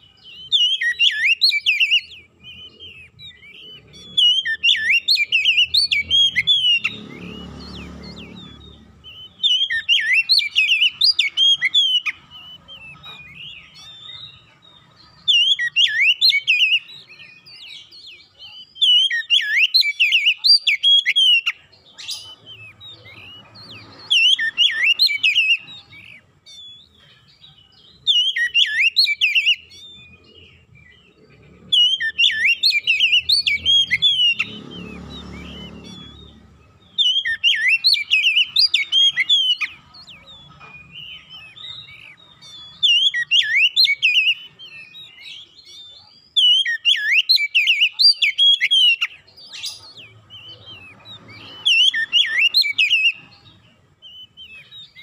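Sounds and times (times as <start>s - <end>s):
magpie-robin singing: 0.0s - 55.0s.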